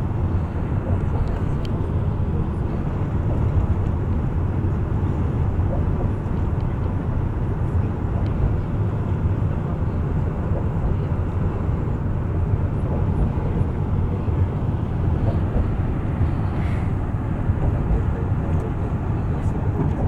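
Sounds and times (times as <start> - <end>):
bus engine and tyre rumble: 0.0 - 20.0.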